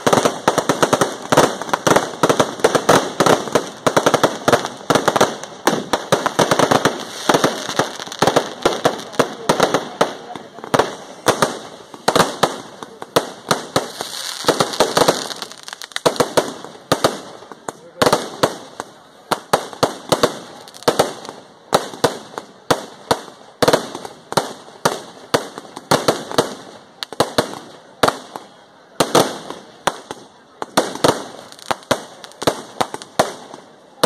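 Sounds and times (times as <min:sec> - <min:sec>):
firecrackers bursting: 0:00.0 - 0:34.0.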